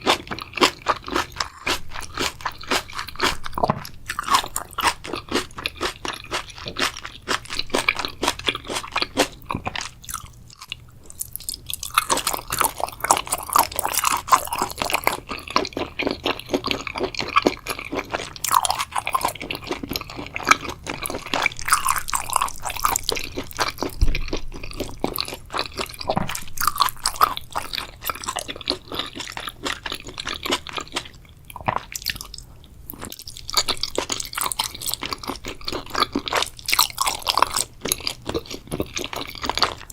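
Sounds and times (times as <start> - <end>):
close chewing with wet crunches: 0.0 - 39.9.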